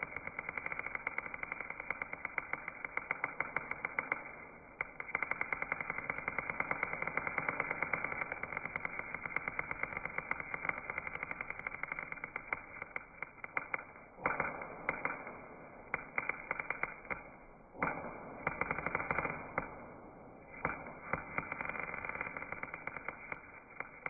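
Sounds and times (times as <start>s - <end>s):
sharp popping of weld: 0.0s - 24.0s
welding arc crackling: 0.0s - 24.0s.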